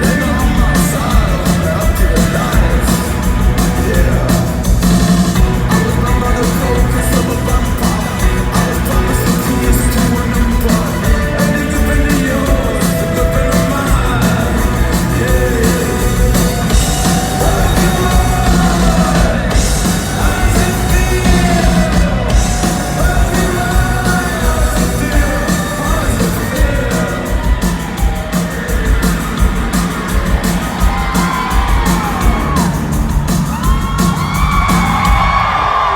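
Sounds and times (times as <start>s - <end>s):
person singing: 0.0s - 34.9s
live rock band playing: 0.0s - 35.9s.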